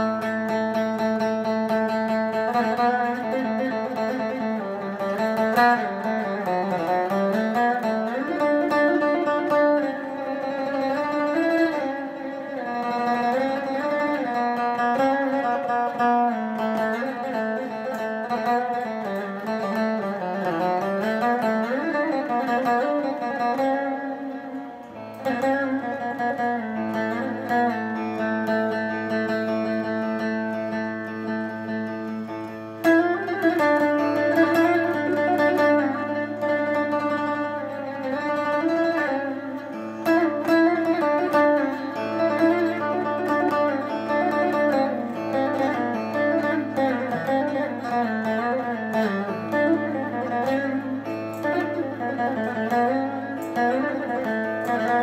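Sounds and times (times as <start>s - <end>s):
plucked electric saz melody: 0.0s - 55.0s.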